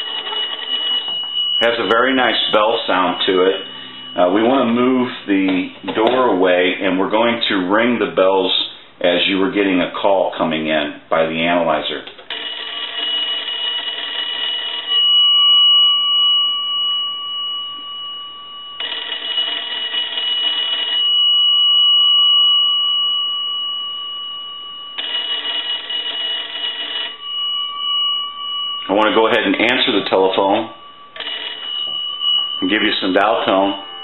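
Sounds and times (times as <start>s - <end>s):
telephone bell gongs ringing: 0.0s - 5.8s, 12.3s - 34.0s
steady ringing tone: 0.0s - 8.6s, 11.8s - 34.0s.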